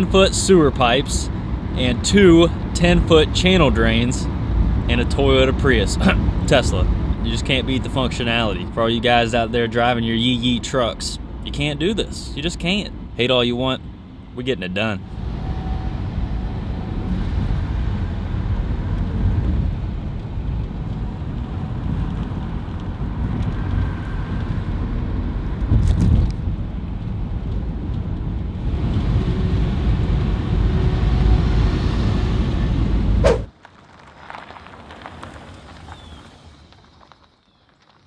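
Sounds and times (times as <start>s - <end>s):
car road and wind noise: 0.0s - 37.9s.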